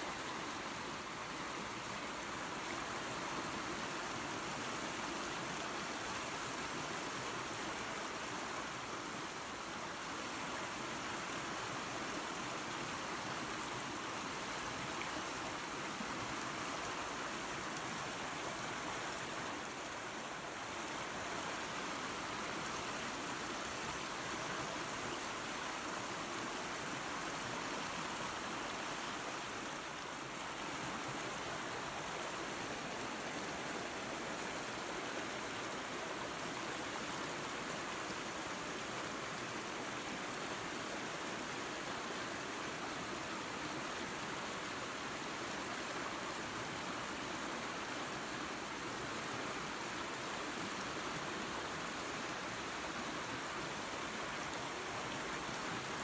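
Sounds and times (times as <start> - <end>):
waterfall and creek rushing: 0.0 - 56.0.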